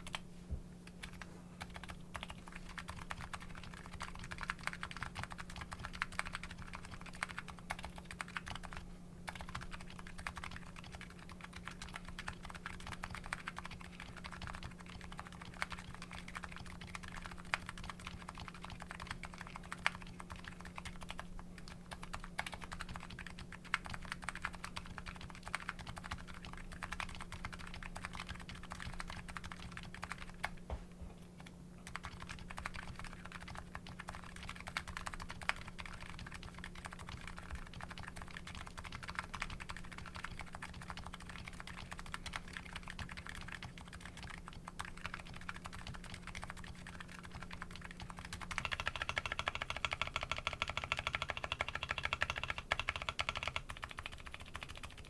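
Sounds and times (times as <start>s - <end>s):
faint low hum: 0.0s - 55.0s
keyboard typing clicks: 0.8s - 30.6s, 31.4s - 55.0s.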